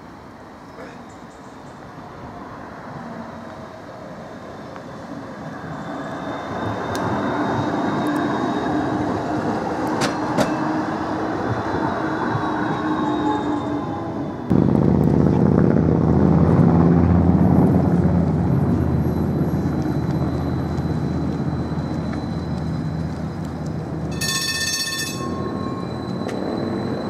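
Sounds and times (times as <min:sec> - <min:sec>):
tram passing: 0:00.0 - 0:27.0.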